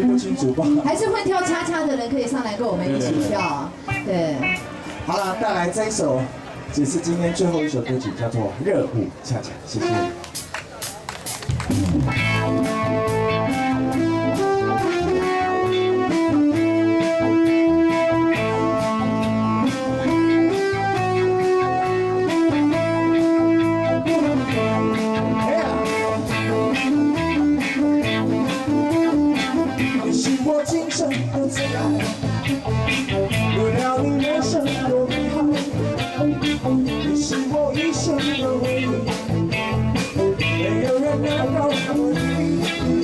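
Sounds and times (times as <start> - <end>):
live band playing cha-cha: 2.8 - 5.7, 9.6 - 43.0.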